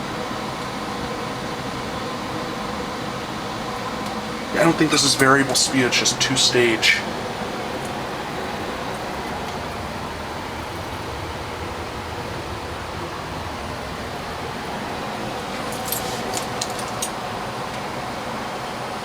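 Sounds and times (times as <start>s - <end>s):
furnace blower air rush: 0.0s - 19.0s.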